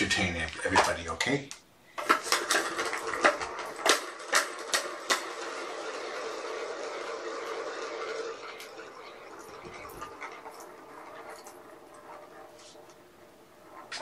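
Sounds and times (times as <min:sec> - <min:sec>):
balls rolling rumble: 0:00.0 - 0:14.0
plastic balls clacking: 0:00.0 - 0:14.0.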